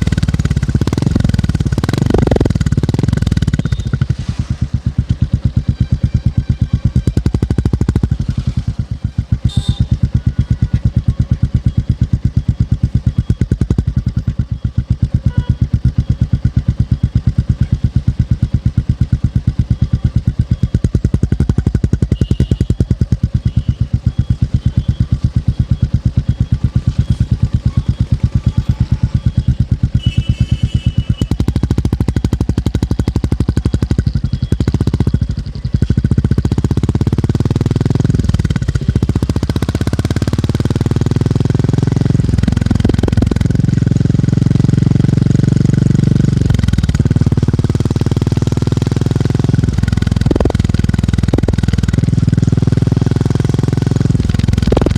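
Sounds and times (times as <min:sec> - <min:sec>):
motorcycle engine thumping: 0:00.0 - 0:54.9.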